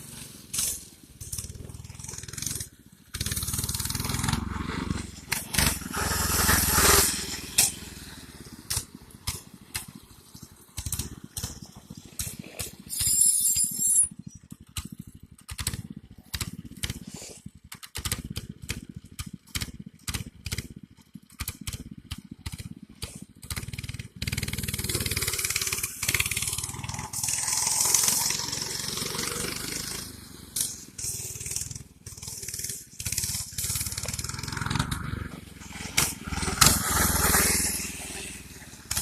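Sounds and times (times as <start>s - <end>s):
small gas engine running: 0.0s - 39.0s.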